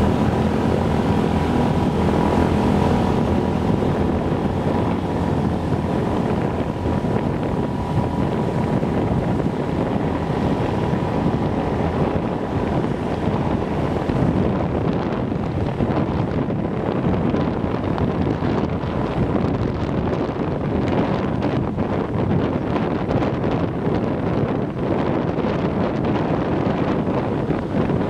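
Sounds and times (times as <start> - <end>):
wind on the microphone: 0.0 - 28.0.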